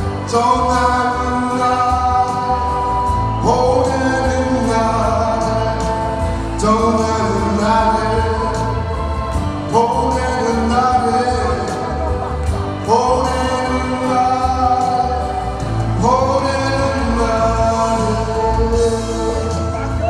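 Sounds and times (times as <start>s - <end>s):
backing track with bass beat: 0.0s - 20.0s
man singing into a microphone: 0.0s - 20.0s.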